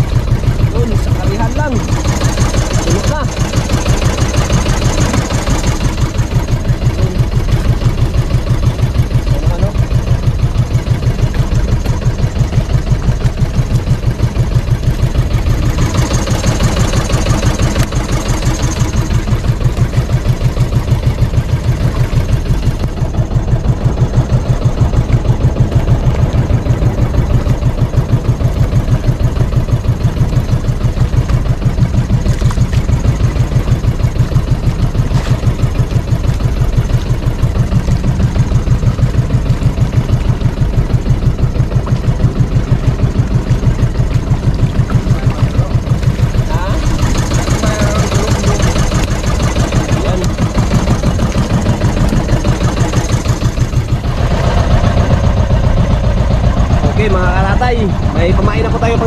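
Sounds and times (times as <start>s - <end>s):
water hissing along hull: 0.0s - 58.9s
boat engine pulsing: 0.0s - 59.0s.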